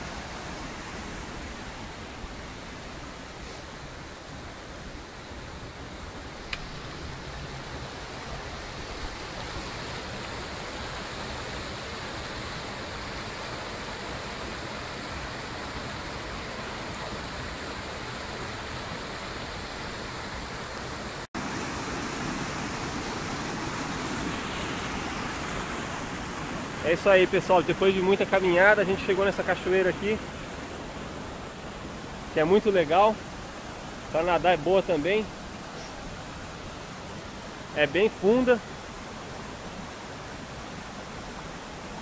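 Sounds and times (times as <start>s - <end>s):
river rushing over boulders: 0.0s - 42.0s.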